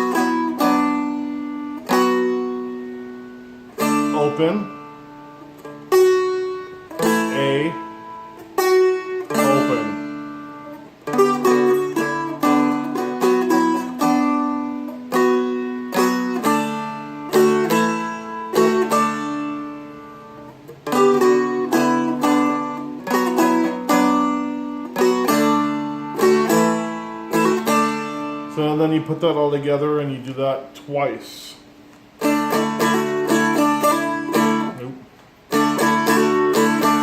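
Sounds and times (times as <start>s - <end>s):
strumstick picked notes: 0.0s - 37.0s.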